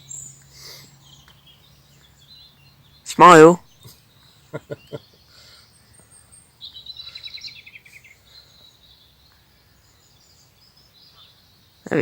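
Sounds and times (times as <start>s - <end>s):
songbird trilling: 0.0s - 12.0s.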